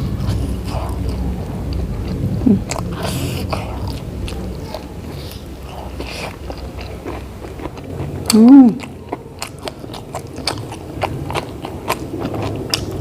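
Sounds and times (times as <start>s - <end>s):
person biting and chewing food: 0.0s - 13.0s.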